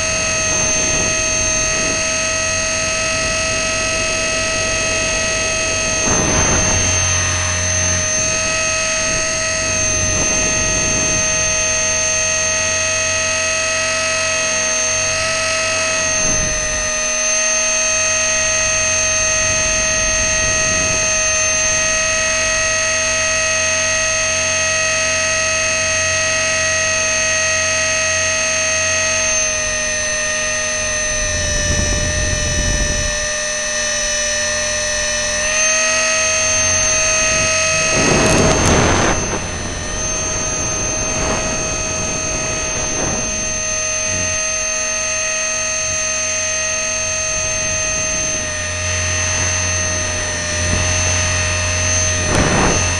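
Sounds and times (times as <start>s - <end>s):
rushes of air noise: 0.0s - 24.8s, 29.0s - 52.9s
rc helicopter rotor whine: 0.0s - 52.9s.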